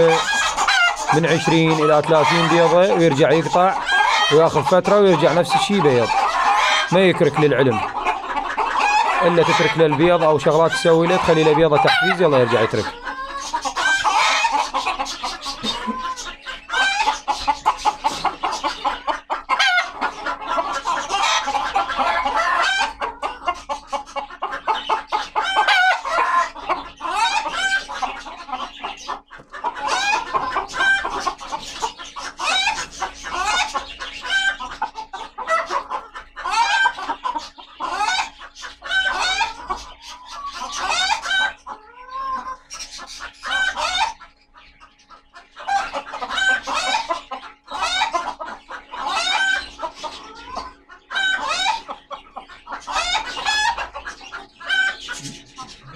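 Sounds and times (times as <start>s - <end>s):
chickens clucking and squawking: 0.0s - 55.9s.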